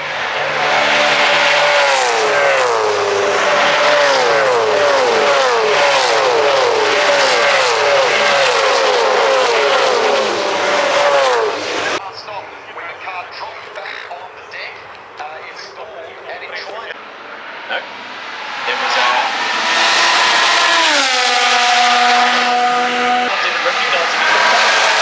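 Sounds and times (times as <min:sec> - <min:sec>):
racing cars passing at speed: 0:00.0 - 0:12.0, 0:16.7 - 0:25.0.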